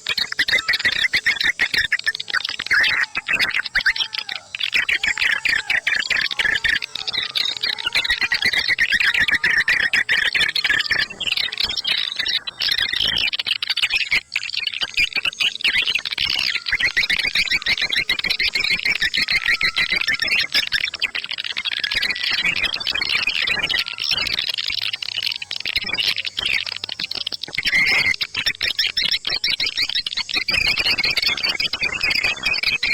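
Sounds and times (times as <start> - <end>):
swiftlets chirping and twittering: 0.0 - 32.9.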